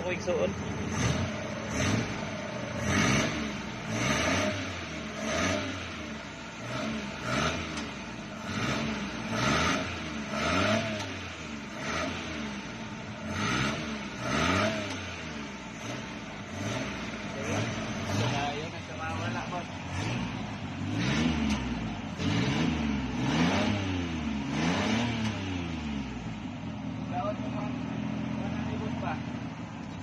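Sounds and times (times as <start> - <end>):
engine revving: 0.0 - 29.8.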